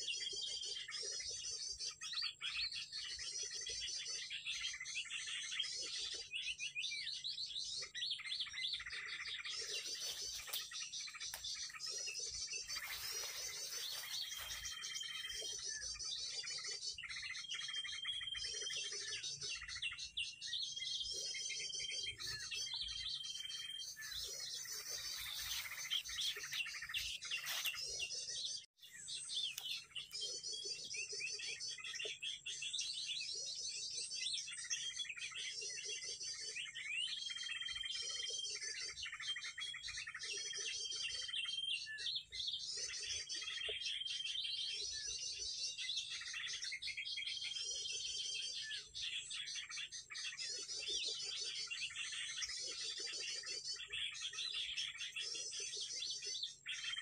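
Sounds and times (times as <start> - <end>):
small bird chirping trills: 0.0 - 57.0.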